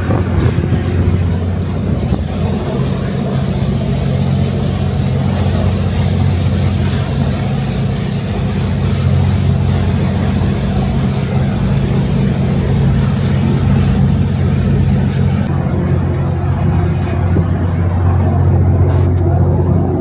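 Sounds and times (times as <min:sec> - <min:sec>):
deep ferry engine hum: 0:00.0 - 0:20.0
noisy rushing hiss: 0:00.0 - 0:20.0.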